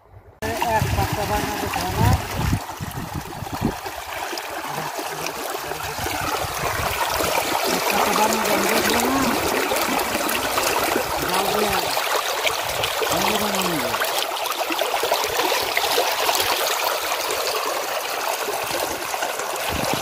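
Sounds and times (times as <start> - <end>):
muddy water churning and splashing: 0.4 - 20.0.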